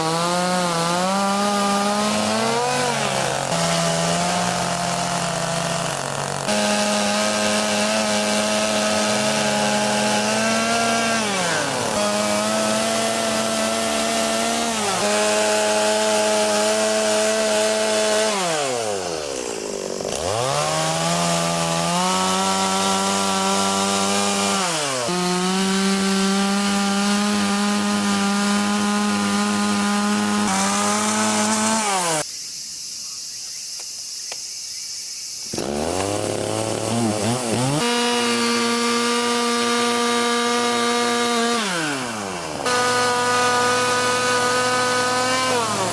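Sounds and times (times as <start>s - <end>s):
chainsaw carving into wood: 0.0s - 32.3s, 35.5s - 45.9s.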